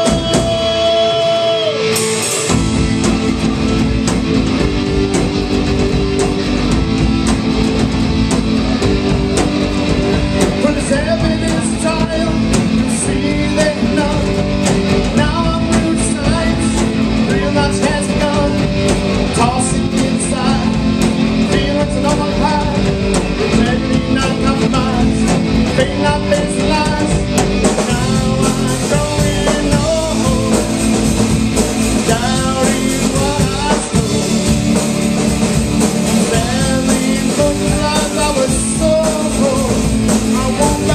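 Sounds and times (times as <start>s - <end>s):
person singing: 0.0s - 2.6s, 9.3s - 34.8s, 36.1s - 40.9s
rock band playing live: 0.0s - 40.9s.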